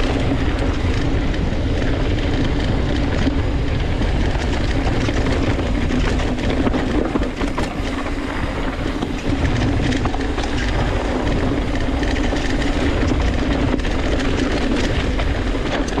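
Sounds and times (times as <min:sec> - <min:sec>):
bike rattling clicks: 0:00.0 - 0:16.0
bike rolling on dirt trail: 0:00.0 - 0:16.0.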